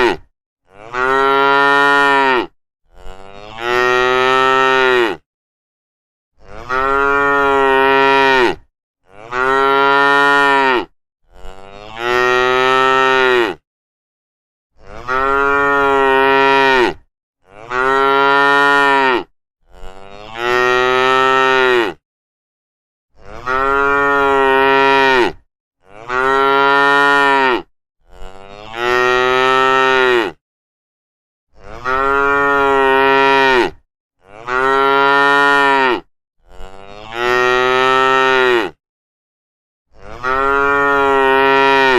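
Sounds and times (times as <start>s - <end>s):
cattle mooing: 0.0s - 5.2s, 6.4s - 13.6s, 14.8s - 22.0s, 23.2s - 30.4s, 31.6s - 38.8s, 40.0s - 41.9s.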